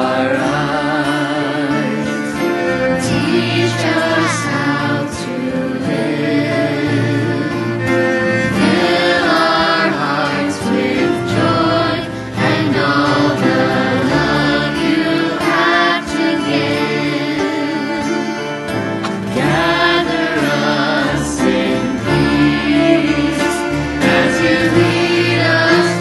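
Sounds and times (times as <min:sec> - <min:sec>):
acoustic guitar: 0:00.0 - 0:26.0
cello: 0:00.0 - 0:26.0
congregation singing: 0:00.0 - 0:26.0
piano: 0:00.0 - 0:26.0.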